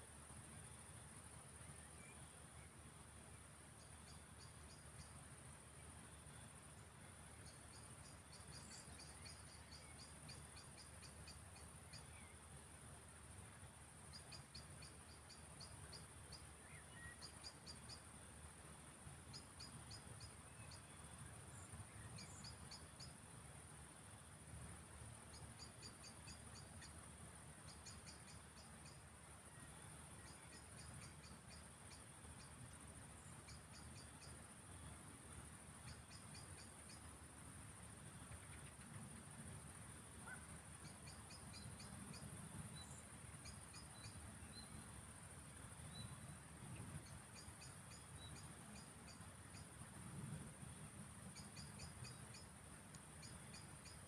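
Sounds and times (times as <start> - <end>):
field crickets chirping: 0.0 - 54.0
high insect hiss: 0.0 - 54.0.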